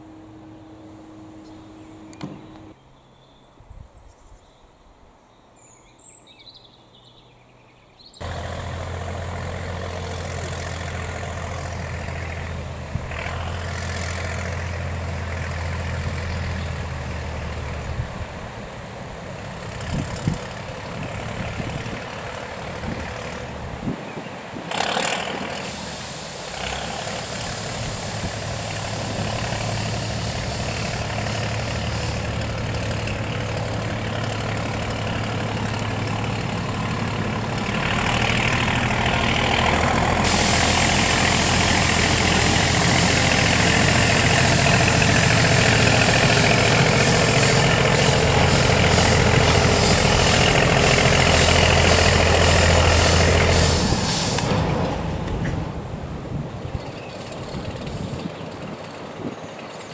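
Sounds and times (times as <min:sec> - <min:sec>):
diesel locomotive engine running: 0:00.0 - 0:02.8, 0:08.2 - 0:59.9.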